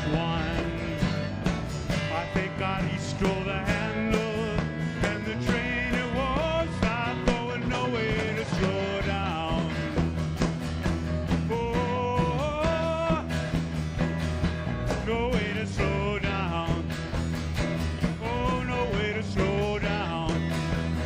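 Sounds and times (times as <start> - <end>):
bass line: 0.0 - 21.0
drum beat: 0.0 - 21.0
sliding bending lead guitar line: 0.0 - 21.0.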